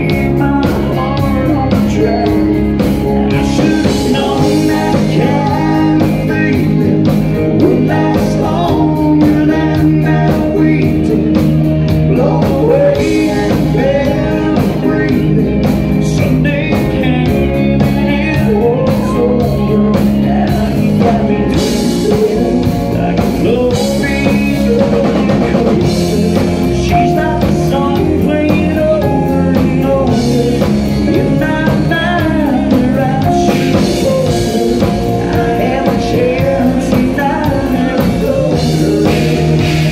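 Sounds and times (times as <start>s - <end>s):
drum kit beat: 0.0s - 39.9s
electric bass: 0.0s - 39.9s
man singing: 0.0s - 39.9s.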